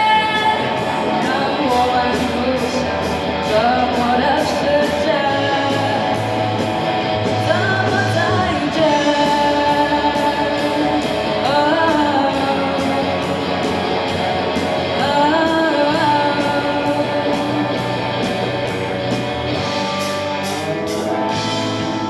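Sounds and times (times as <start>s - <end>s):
guitar and bass chords: 0.0s - 22.0s
lead melody: 0.0s - 22.0s.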